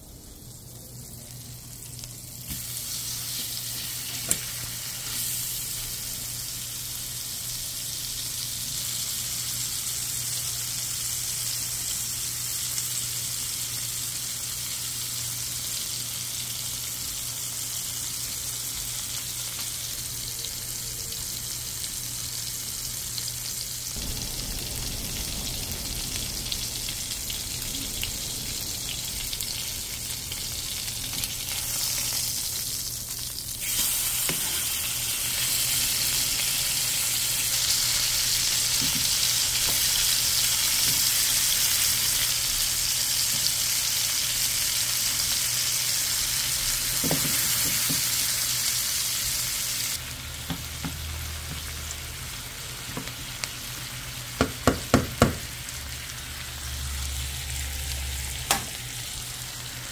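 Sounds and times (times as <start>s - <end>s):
steak sizzling in oil: 1.8s - 59.9s.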